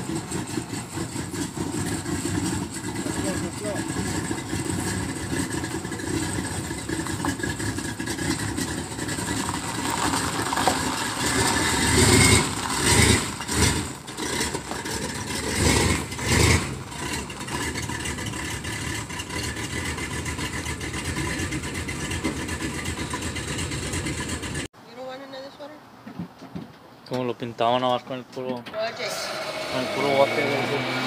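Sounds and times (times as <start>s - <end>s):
pickup truck engine revving: 0.0s - 24.7s, 29.2s - 31.0s.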